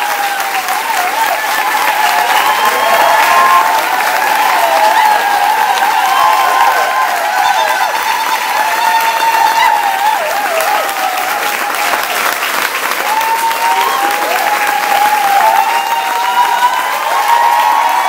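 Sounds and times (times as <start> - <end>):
audience applauding: 0.0 - 18.0
crowd cheering and crying out: 0.0 - 18.0.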